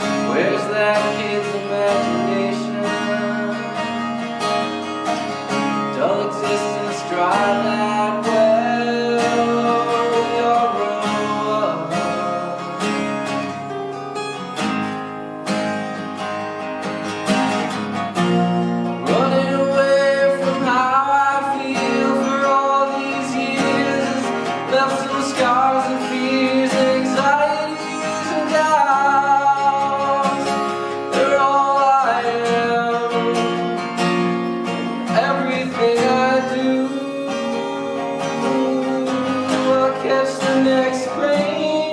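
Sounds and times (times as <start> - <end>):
person singing: 0.0 - 13.8, 18.3 - 41.9
acoustic guitar strummed: 0.0 - 41.9.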